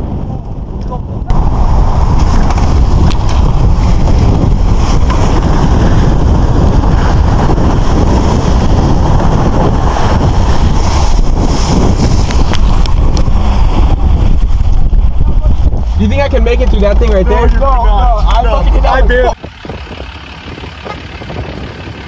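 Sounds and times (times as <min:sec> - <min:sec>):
tires rushing: 0:00.0 - 0:22.0
wind buffeting microphone: 0:00.0 - 0:22.0.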